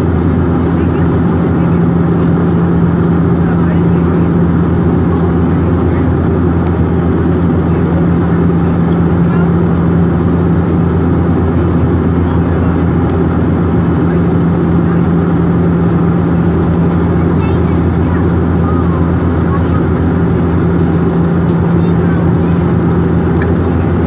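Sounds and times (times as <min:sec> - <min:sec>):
airliner engine drone in cabin: 0:00.0 - 0:24.0.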